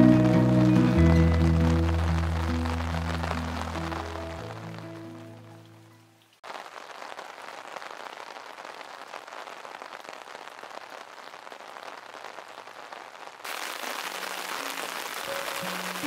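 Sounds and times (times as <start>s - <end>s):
rain pattering on hard surface: 0.0s - 16.0s.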